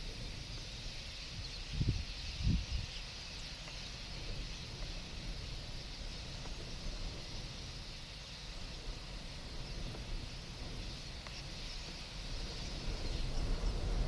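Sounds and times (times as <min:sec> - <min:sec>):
distant flock of waterbirds: 0:00.0 - 0:14.0.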